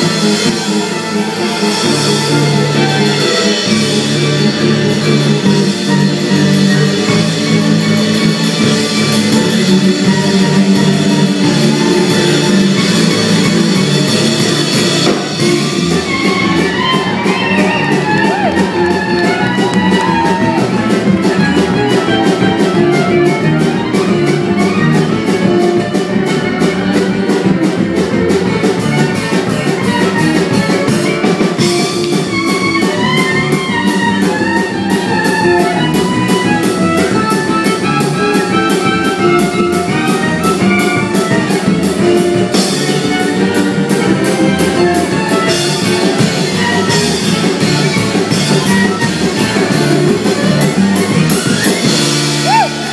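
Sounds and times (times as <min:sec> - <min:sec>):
drums fast beat: 0:00.0 - 0:52.9
guitar and bass: 0:00.0 - 0:52.9
lead instrument melodic runs: 0:00.0 - 0:52.9.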